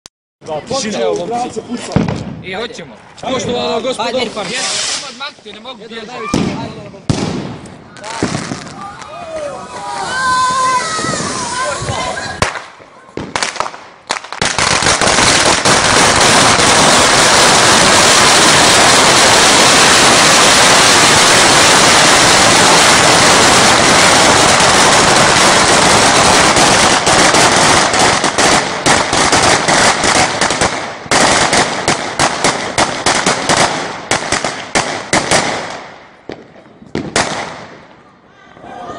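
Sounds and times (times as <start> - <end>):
firecrackers crackling: 1.1 - 38.2.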